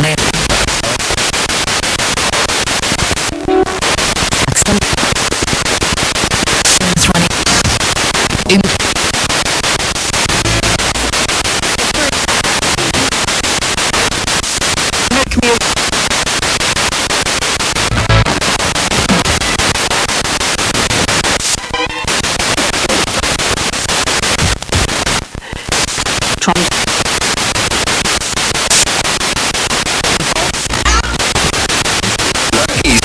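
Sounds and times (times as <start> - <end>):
radio static sweeping: 0.0 - 33.0
snatches of broadcast music: 0.0 - 33.0.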